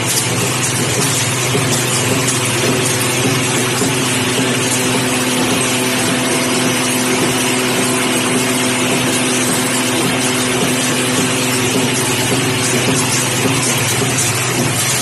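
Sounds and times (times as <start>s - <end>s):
constant whirring: 0.0s - 15.0s
machine mechanical hum: 0.0s - 15.0s.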